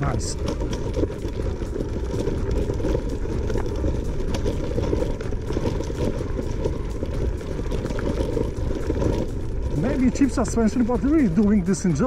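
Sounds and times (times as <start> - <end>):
electric scooter rumbling: 0.0 - 12.0
scooter suspension clicks and knocks: 0.0 - 12.0.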